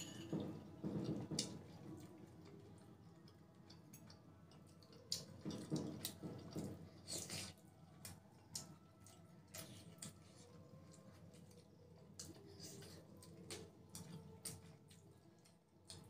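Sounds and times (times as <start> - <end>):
wet chewing and mouth sounds: 0.3 - 16.0.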